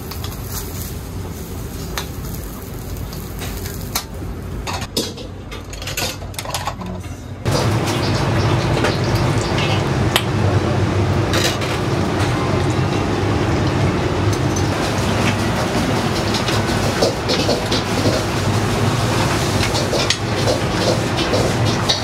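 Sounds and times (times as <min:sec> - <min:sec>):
water boiling in a pot: 0:00.0 - 0:04.9, 0:07.4 - 0:22.0.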